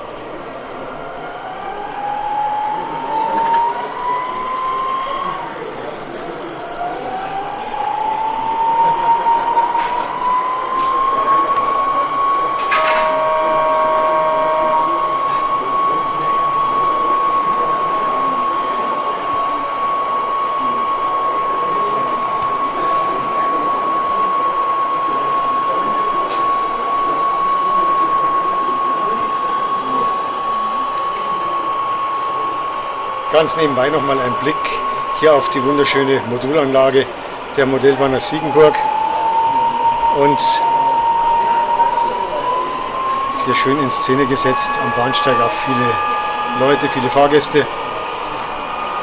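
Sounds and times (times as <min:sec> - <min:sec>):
model locomotive motor whine: 0:00.0 - 0:49.0
murmur of exhibition hall: 0:00.0 - 0:49.0.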